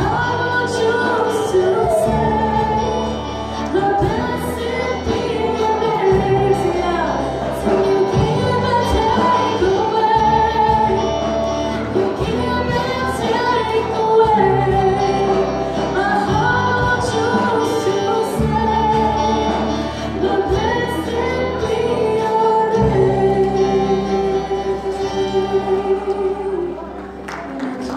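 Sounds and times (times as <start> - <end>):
bass guitar: 0.0 - 27.9
congregation singing: 0.0 - 27.9.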